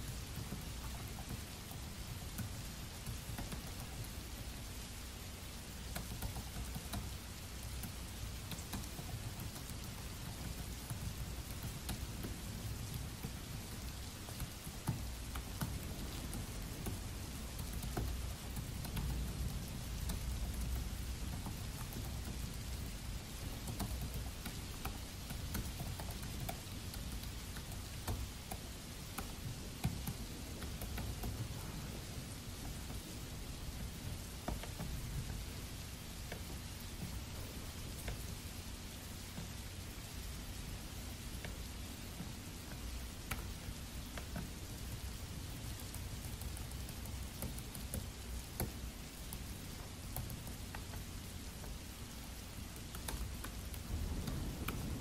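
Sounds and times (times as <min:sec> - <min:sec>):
laptop keyboard typing: 0:00.0 - 0:04.6, 0:05.7 - 0:32.0, 0:33.7 - 0:35.5, 0:36.2 - 0:38.4, 0:41.4 - 0:55.0
steady rain: 0:00.0 - 0:55.0.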